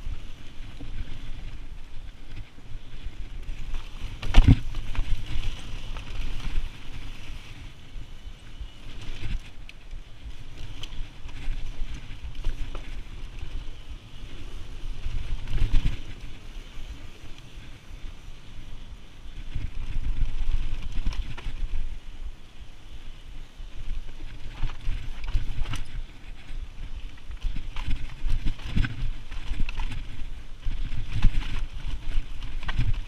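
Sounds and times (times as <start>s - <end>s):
low wind rumble: 0.0s - 33.0s.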